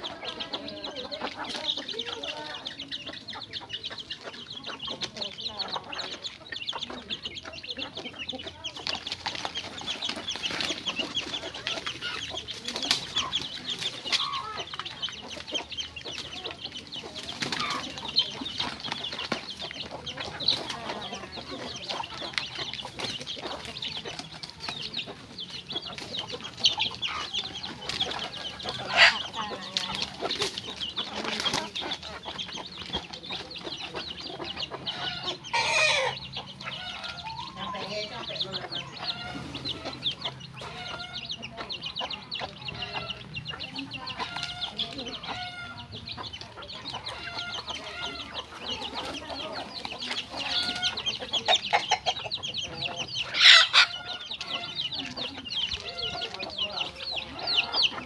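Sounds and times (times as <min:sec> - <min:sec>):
loud chicken calls: 0:00.0 - 0:33.0, 0:33.8 - 0:41.5, 0:46.5 - 0:58.0
chickens clucking: 0:00.0 - 0:58.0.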